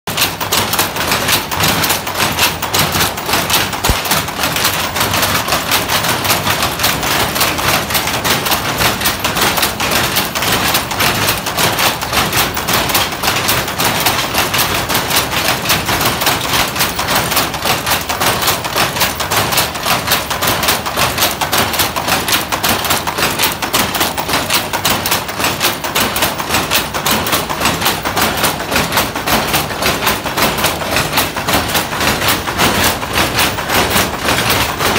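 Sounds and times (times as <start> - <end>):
shuttle knocking: 0.1 - 34.9
weaving looms clattering: 0.1 - 34.9.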